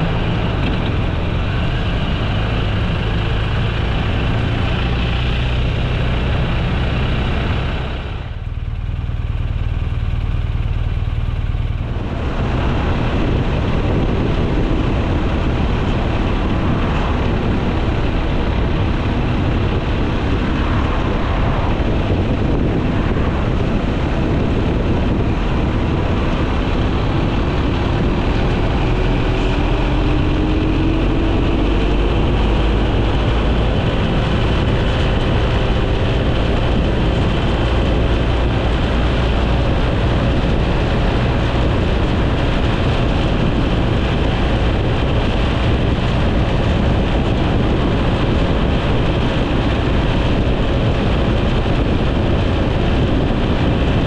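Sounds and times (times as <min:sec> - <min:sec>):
vehicle motor rumble: 0:00.0 - 0:54.0.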